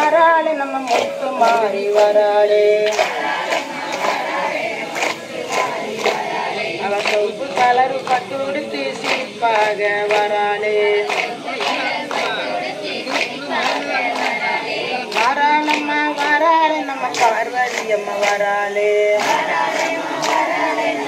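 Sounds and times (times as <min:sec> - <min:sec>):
crowd chatter: 0:00.0 - 0:21.0
group singing held notes: 0:00.0 - 0:21.0.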